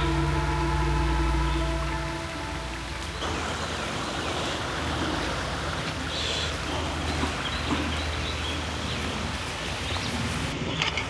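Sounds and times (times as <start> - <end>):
creek water running over rocks: 0.0 - 10.6.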